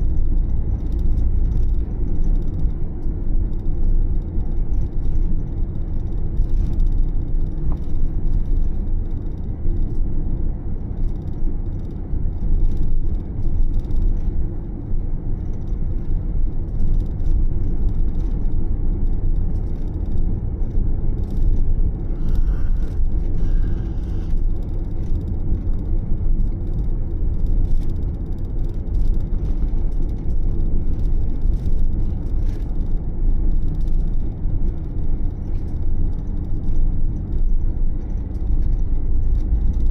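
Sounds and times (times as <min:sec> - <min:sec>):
van engine and road rumble: 0:00.0 - 0:39.9.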